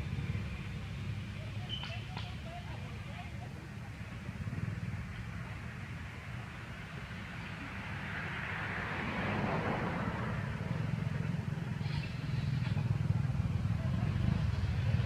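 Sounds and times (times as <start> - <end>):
road vehicle passing: 0.0 - 15.0.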